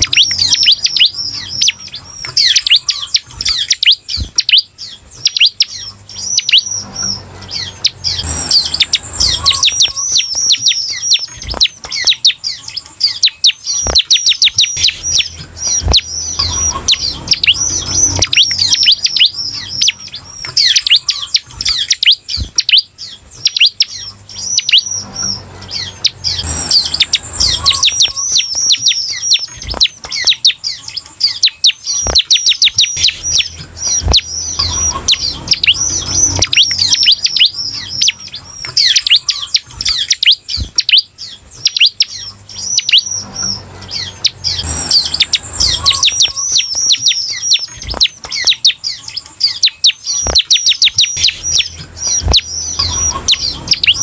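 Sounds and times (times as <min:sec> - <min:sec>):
bird song with falling notes: 0:00.0 - 0:54.0.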